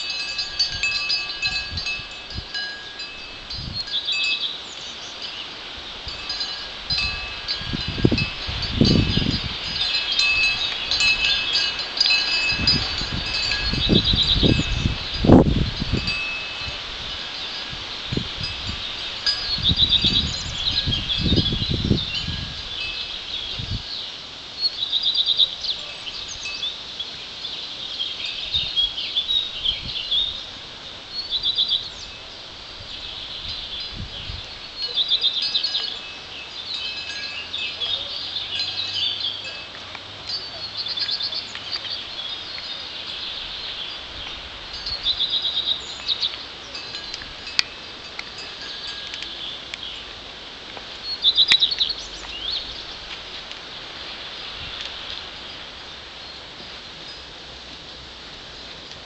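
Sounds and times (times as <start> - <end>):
songbirds chirping trills: 0.0 - 59.0.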